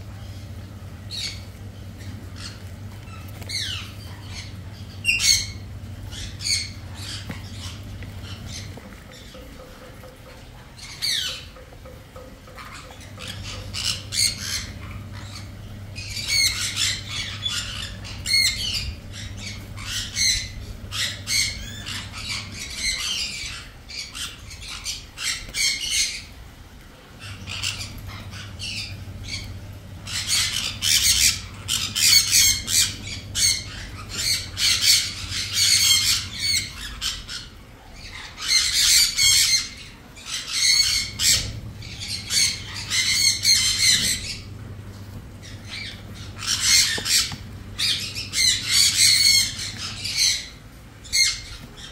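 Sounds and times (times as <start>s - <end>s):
lovebirds squawking: 0.0s - 51.9s.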